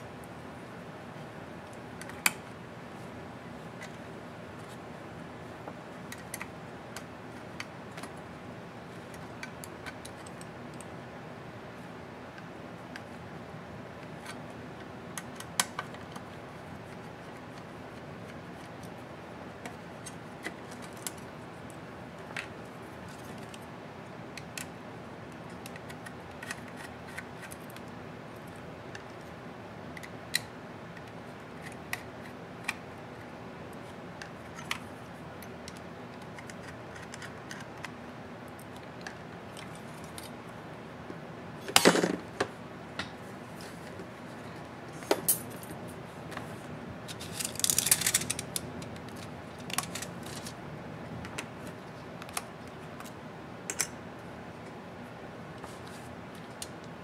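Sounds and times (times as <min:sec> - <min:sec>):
low room hum: 0:00.0 - 0:57.0.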